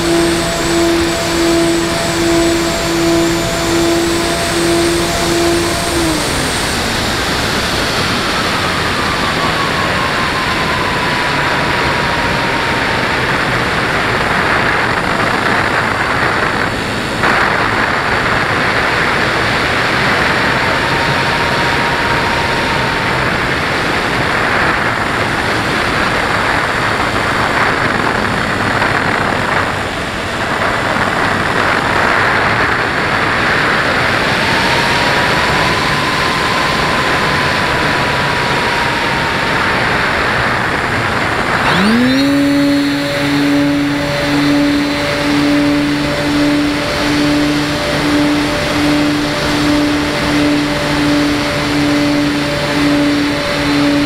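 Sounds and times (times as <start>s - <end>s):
model aircraft motor and propeller: 0.0s - 54.0s.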